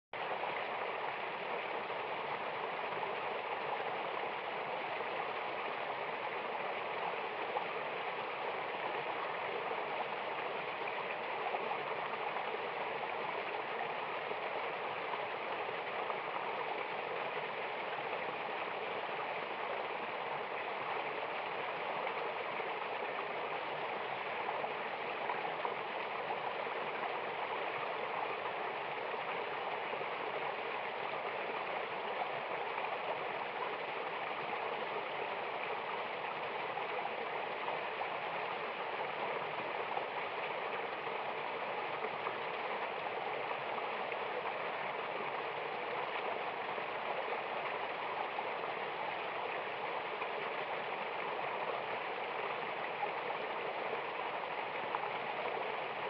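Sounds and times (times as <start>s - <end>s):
waterfall rushing and splashing: 0.2s - 56.0s.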